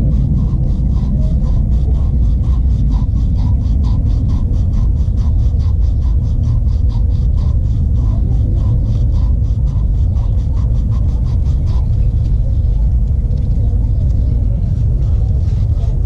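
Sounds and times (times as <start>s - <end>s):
pipe being sanded by hand: 0.0s - 16.0s
steady low rumble: 0.0s - 16.0s.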